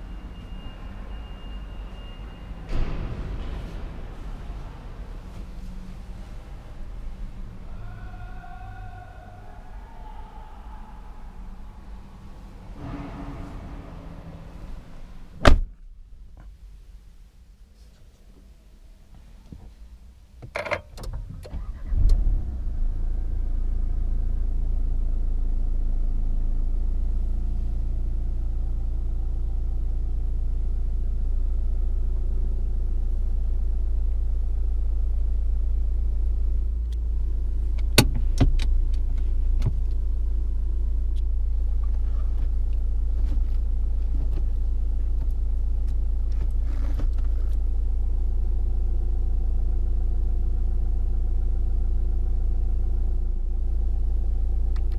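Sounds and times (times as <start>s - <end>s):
car engine cranking and idling: 0.0s - 9.8s, 10.6s - 54.9s.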